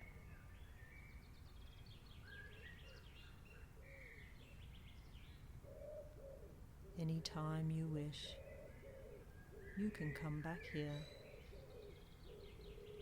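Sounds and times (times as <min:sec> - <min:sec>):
birds whistling and chirping: 0:00.0 - 0:06.4, 0:08.3 - 0:13.0.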